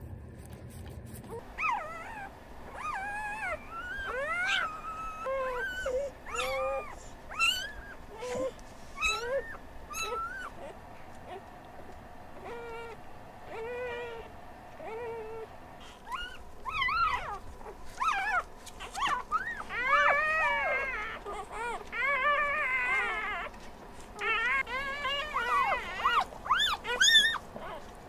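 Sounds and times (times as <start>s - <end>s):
puppies crying and whimpering: 1.3s - 28.0s.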